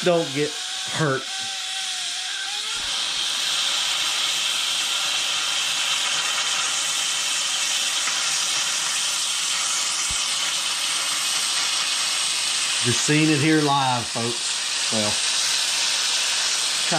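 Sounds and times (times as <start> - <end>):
pressure cooker venting steam: 0.0 - 16.9.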